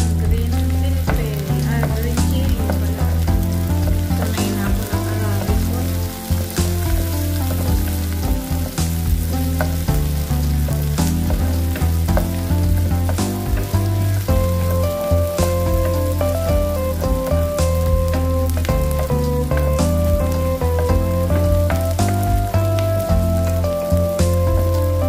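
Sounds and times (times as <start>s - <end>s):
onions sizzling in a frying pan: 0.0s - 25.0s.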